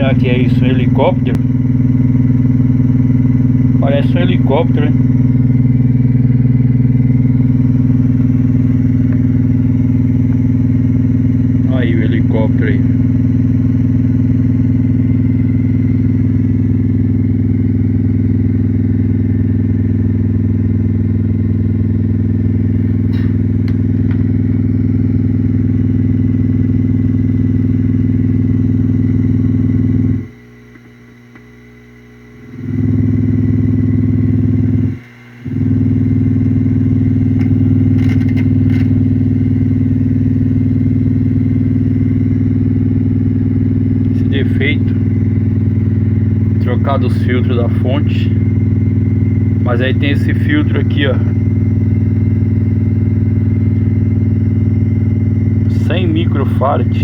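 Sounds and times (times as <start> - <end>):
amplifier loud low hum: 0.0 - 57.0.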